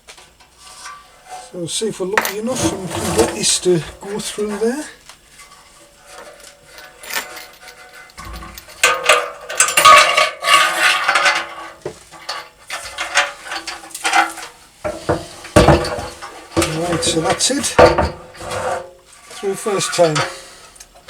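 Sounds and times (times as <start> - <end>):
metal clinking and scraping: 0.1 - 21.0.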